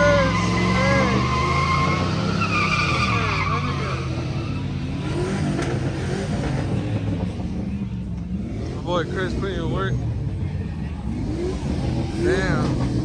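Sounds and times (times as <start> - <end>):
tires squealing: 0.0 - 13.0
vehicle engine running: 0.0 - 13.0.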